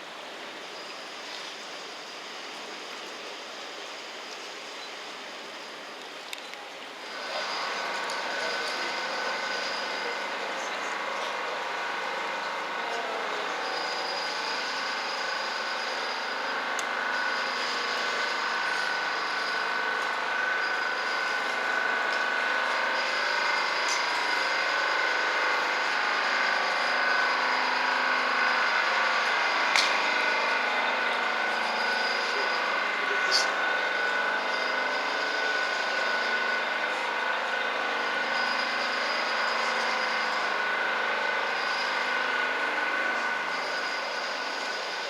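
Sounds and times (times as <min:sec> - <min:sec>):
mechanical whine: 0:00.0 - 0:45.0.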